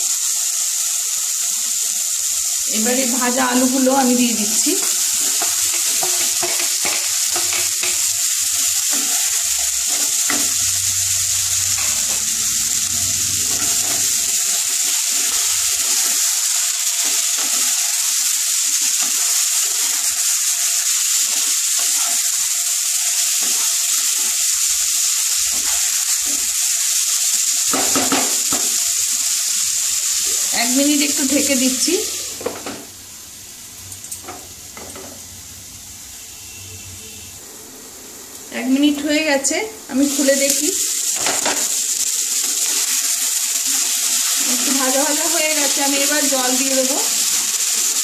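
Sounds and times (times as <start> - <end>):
food sizzling in oil: 0.0 - 48.0.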